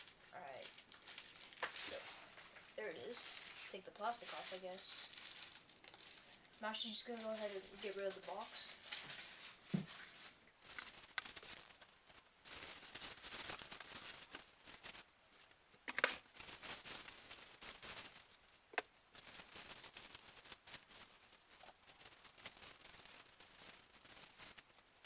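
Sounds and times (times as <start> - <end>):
plastic and cardboard packaging rustling: 0.0 - 25.0.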